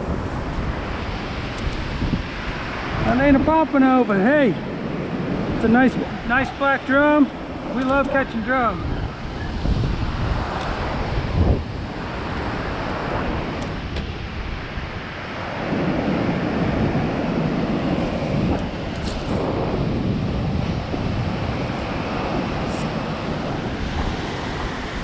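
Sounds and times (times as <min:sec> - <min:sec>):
ocean surf washing onto beach: 0:00.0 - 0:25.0
wind rumbling on microphone: 0:00.0 - 0:25.0.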